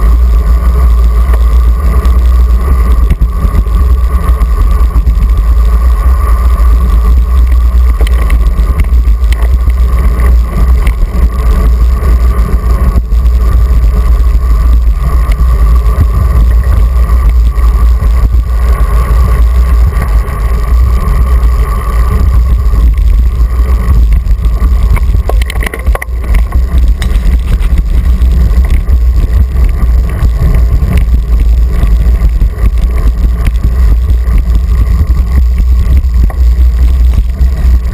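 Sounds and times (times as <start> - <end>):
faint steady hum: 0.0 - 37.9
wind buffeting microphone: 0.0 - 37.9.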